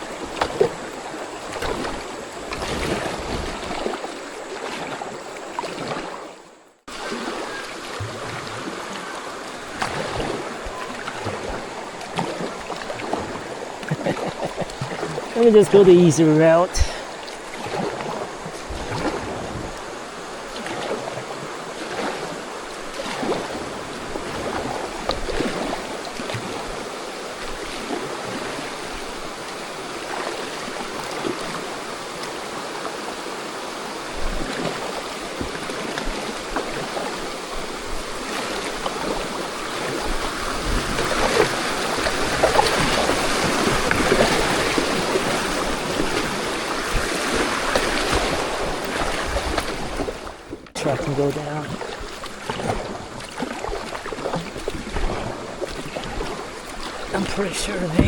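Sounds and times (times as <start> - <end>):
creek water rushing over shoals: 0.0 - 58.0
water splashes: 0.0 - 58.0.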